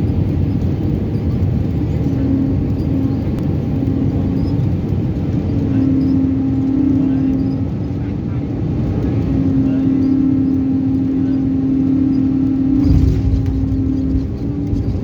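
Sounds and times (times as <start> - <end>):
engine rumble and rushing air: 0.0 - 15.0
humming tone: 1.8 - 15.0.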